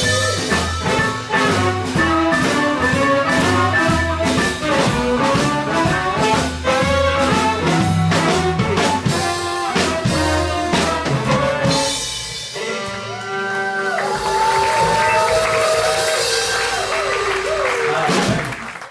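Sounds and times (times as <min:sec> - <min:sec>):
blues band playing live: 0:00.0 - 0:18.8.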